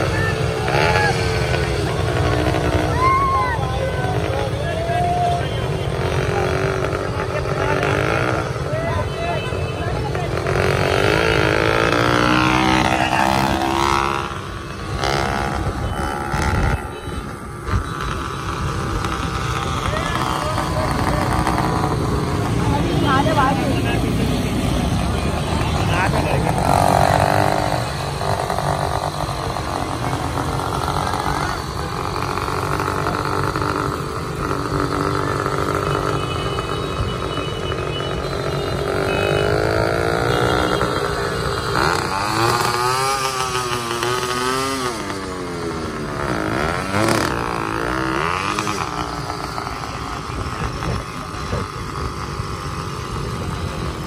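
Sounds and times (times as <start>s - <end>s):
small motorcycle engine running: 0.0s - 54.0s
traffic: 0.0s - 54.0s.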